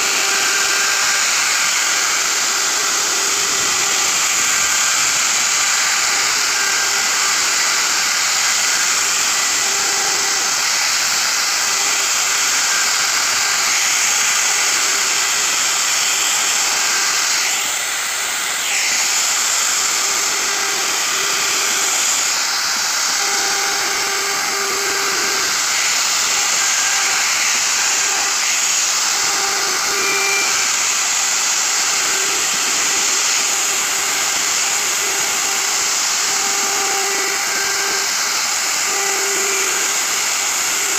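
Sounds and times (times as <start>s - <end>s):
electric router cutting wood: 0.0s - 40.9s.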